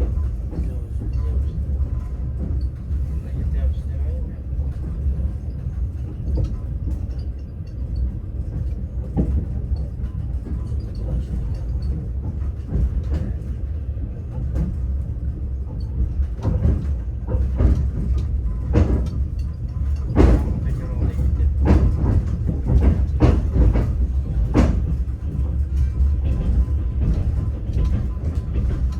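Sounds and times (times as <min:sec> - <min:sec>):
train rumble inside carriage: 0:00.0 - 0:28.9.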